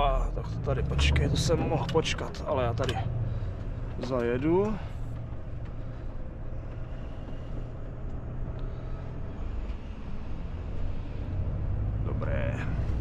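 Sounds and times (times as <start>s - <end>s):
truck engine drone: 0.0s - 13.0s.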